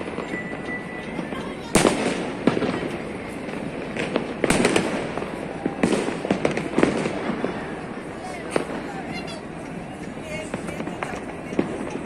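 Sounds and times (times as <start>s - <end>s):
distant fireworks bangs and crackle: 0.0s - 12.0s
loud firework reports: 0.0s - 12.0s.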